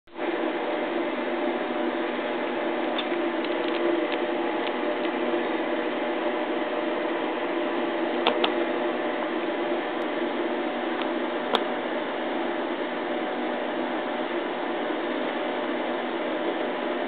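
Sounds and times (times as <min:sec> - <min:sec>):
machine hum: 0:00.1 - 0:17.0.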